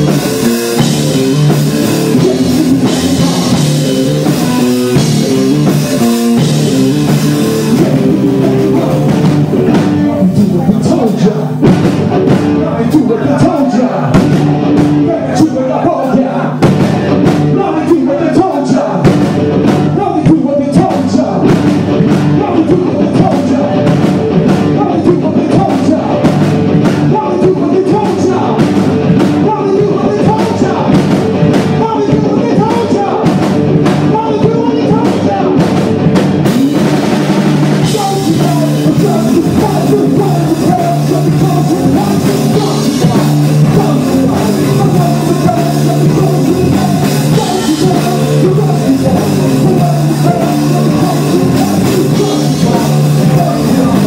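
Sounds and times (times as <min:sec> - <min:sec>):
person singing: 0:00.0 - 0:06.5, 0:07.3 - 0:11.7, 0:12.3 - 0:19.1, 0:19.8 - 0:26.4, 0:27.1 - 0:35.8, 0:37.8 - 0:54.0
drum kit: 0:00.0 - 0:54.0
electric guitars: 0:00.0 - 0:54.0.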